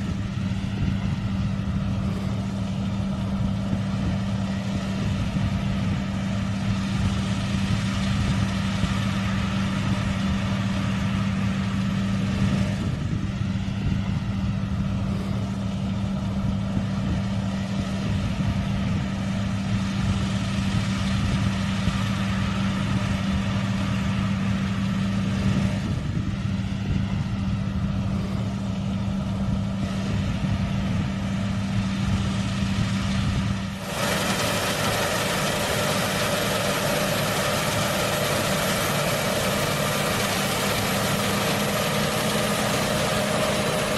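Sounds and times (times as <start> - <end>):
combine harvester engine running: 0.0 - 43.9.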